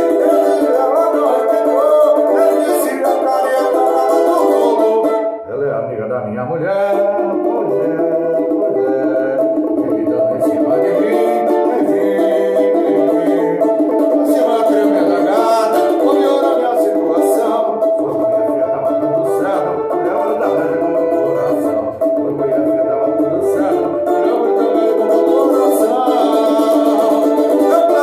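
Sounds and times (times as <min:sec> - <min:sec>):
banjo playing samba: 0:00.0 - 0:28.0.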